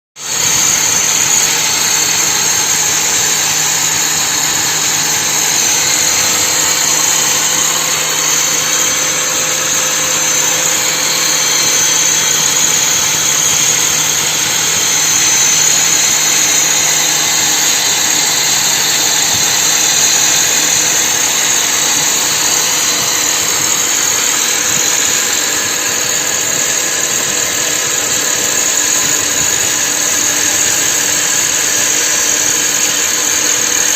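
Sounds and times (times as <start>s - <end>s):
high steady whine: 0.2s - 33.9s
machine tool running: 0.2s - 33.9s.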